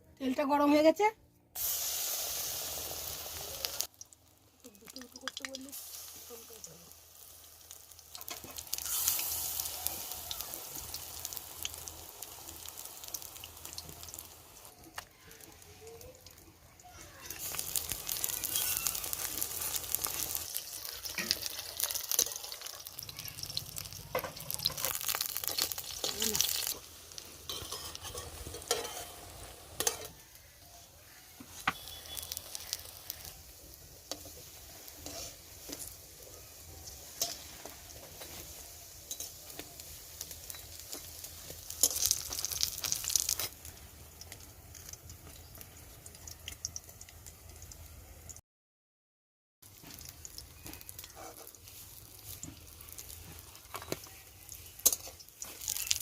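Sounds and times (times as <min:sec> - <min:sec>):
food deep-frying in oil: 0:01.6 - 0:48.4, 0:49.6 - 0:56.0.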